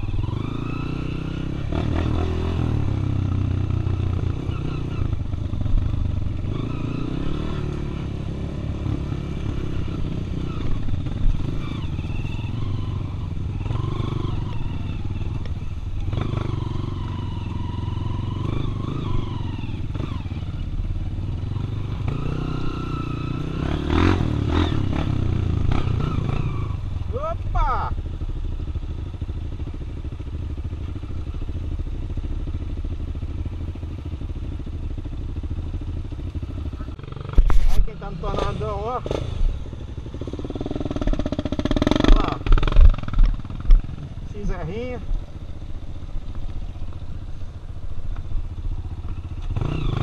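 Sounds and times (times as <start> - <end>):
dirt bike engine revving: 0.0 - 28.2, 34.1 - 50.0.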